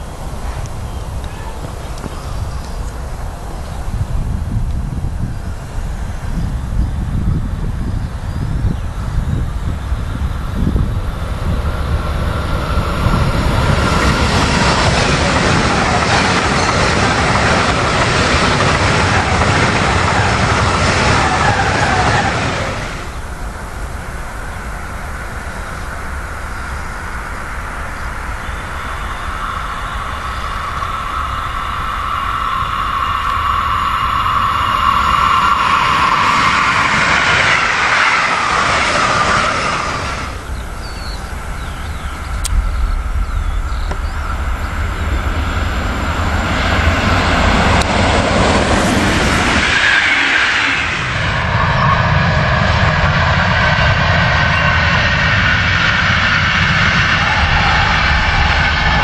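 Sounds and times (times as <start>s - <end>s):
train wheels on rails: 0.0s - 7.8s, 8.5s - 59.0s
steady high whine: 0.0s - 59.0s.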